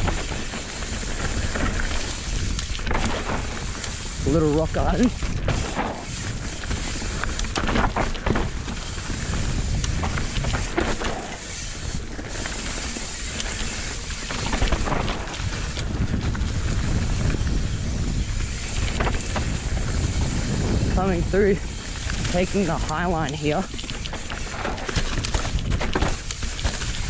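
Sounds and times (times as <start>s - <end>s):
bike knocks and rattles: 0.0s - 27.0s
tyres rolling over loose dirt: 0.0s - 27.0s
wind over microphone: 0.0s - 27.0s.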